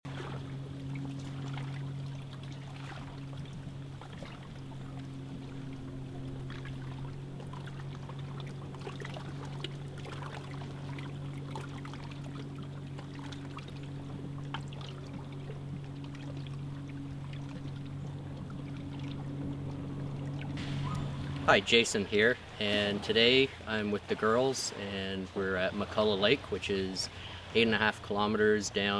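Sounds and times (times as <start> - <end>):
water trickling and splashing: 0.0 - 28.9
steady low hum: 0.1 - 28.9.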